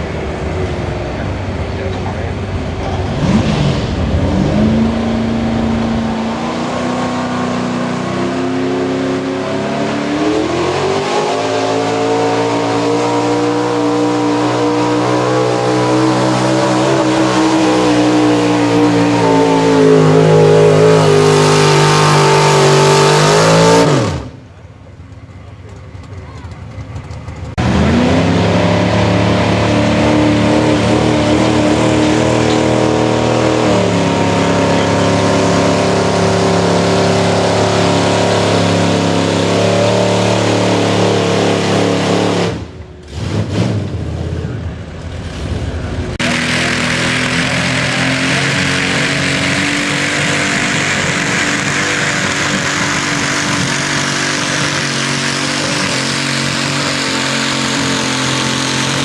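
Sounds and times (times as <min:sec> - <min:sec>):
truck engine revving hard: 0:00.0 - 0:24.6, 0:26.5 - 0:59.0.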